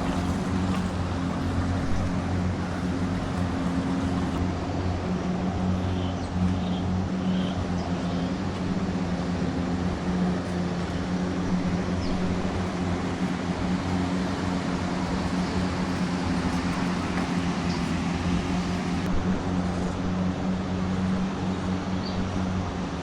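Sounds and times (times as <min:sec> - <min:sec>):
steady engine hum: 0:00.0 - 0:23.0.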